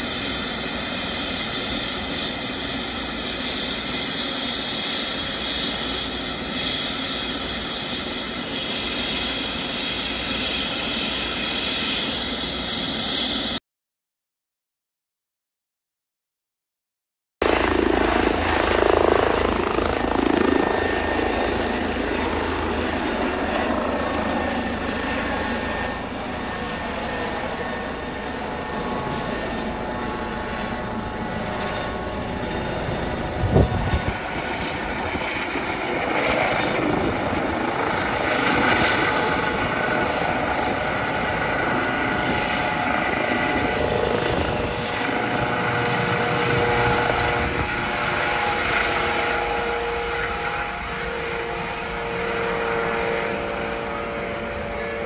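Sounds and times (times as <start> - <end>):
helicopter taking off: 0.0 - 13.6, 17.4 - 55.0.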